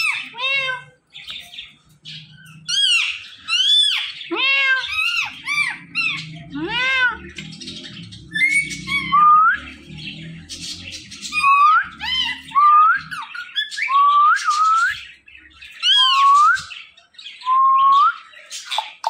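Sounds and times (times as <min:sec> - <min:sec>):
parrot squawking: 0:00.0 - 0:16.6.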